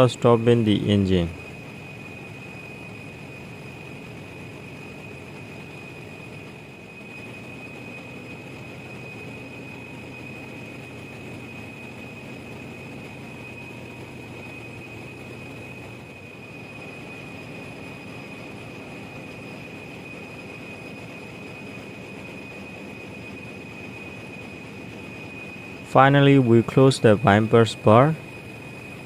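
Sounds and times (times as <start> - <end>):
generator engine drone: 0.0 - 29.0
high whine: 0.0 - 29.0.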